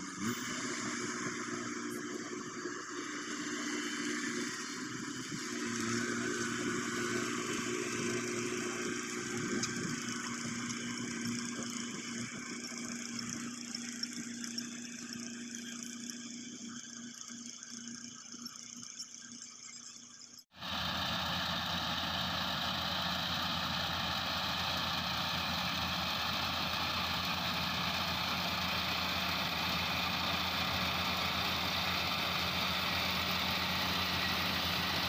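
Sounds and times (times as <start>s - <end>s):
combine harvester engine running: 0.0s - 17.3s, 20.5s - 35.0s.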